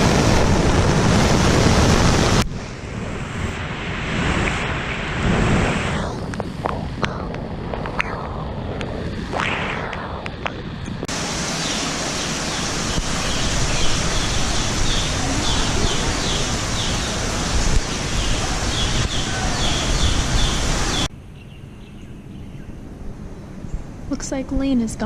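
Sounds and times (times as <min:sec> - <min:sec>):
rushing storm noise: 0:00.0 - 0:21.1.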